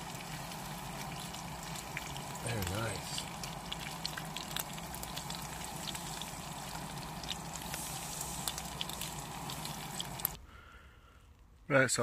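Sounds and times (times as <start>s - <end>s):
food sizzling in a frying pan: 0.0s - 10.4s.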